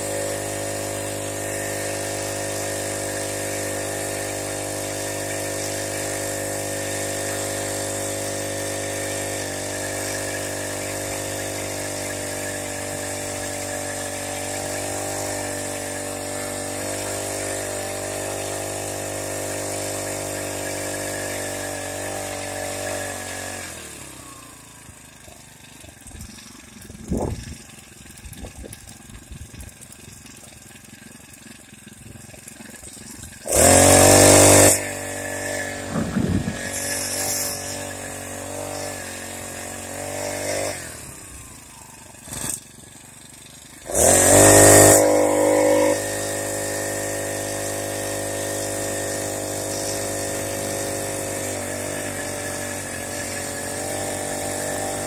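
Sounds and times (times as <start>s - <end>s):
small engine idling: 0.0s - 55.0s.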